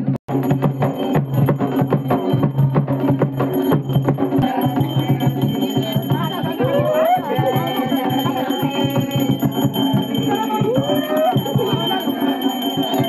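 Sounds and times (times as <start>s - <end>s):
music with dense drumming: 0.0s - 13.0s.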